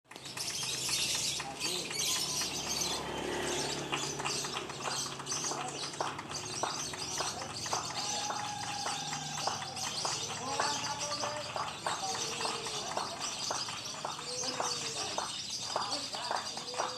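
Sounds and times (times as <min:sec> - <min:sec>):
lovebirds chirping: 0:00.1 - 0:16.9.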